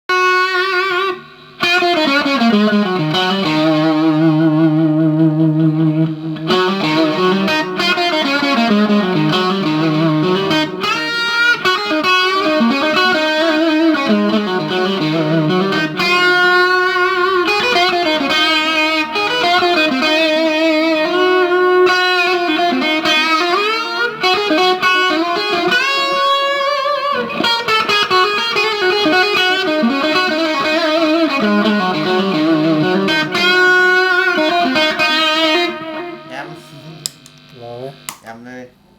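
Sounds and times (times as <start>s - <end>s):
electric guitar lead: 0.1s - 38.1s.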